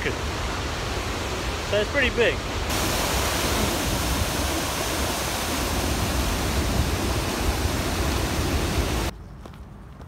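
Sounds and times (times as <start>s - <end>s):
waterfall rushing: 0.0s - 9.1s.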